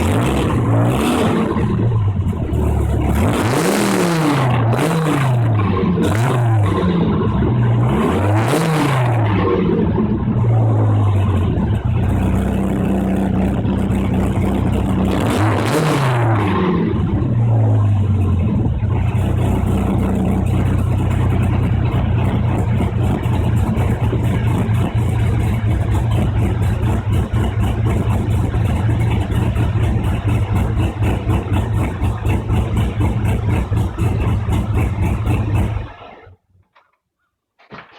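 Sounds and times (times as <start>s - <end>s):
sports car engine revving and idling: 0.0s - 36.2s.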